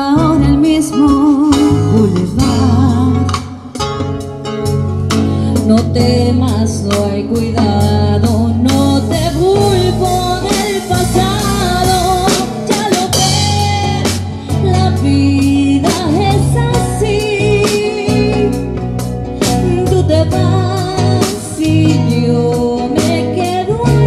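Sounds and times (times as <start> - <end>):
woman singing: 0.0 - 3.8, 5.5 - 24.0
live band playing: 0.0 - 24.0.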